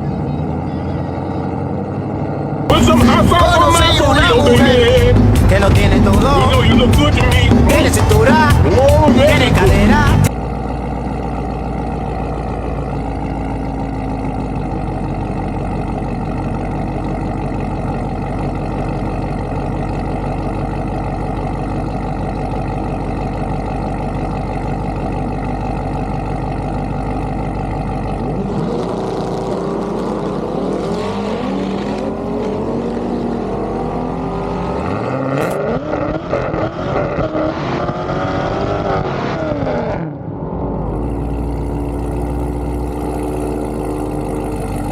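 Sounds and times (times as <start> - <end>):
car engines droning: 0.0 - 44.9
car engines revving: 0.0 - 44.9.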